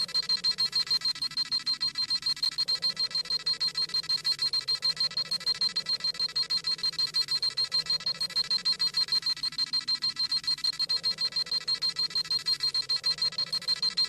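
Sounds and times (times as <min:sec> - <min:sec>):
rapid high-pitched electronic beeping: 0:00.0 - 0:14.0.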